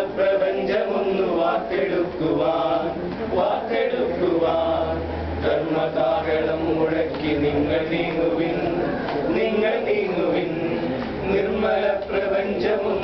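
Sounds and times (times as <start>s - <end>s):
men singing in chorus: 0.0s - 13.0s.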